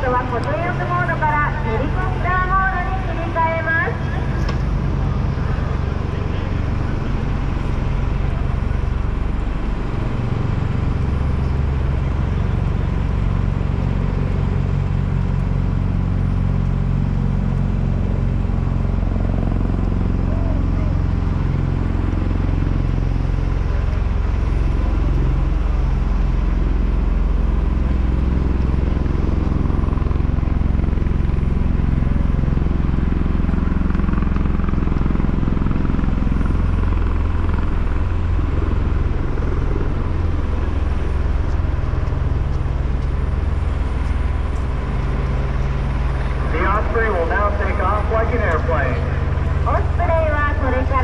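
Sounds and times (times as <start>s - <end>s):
aircraft engine and rotor hum: 0.0s - 51.0s.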